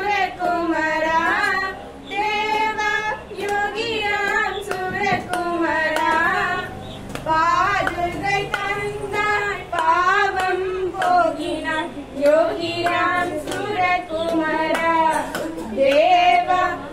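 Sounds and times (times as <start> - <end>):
women singing into a microphone: 0.0 - 16.9
hands clapping in time: 0.4 - 11.5, 12.2 - 16.6.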